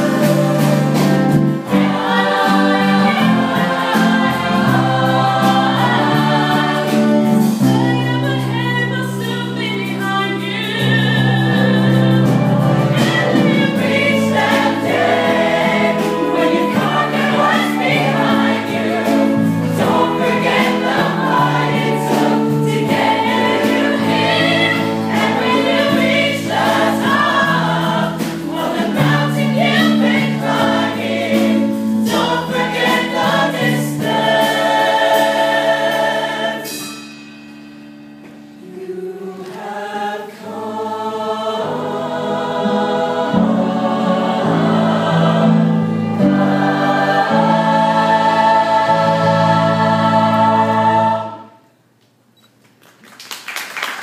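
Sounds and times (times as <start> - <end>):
choir singing: 0.0 - 36.9, 38.5 - 51.7.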